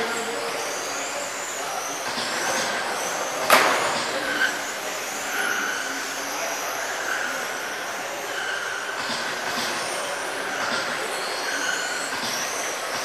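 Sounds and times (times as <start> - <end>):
motor and tyre noise: 0.0 - 13.0
rc car motors whining: 0.0 - 13.0.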